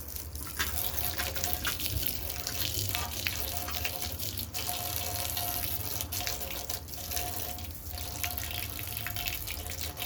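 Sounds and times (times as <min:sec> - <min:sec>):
water running and splashing: 0:00.0 - 0:10.0.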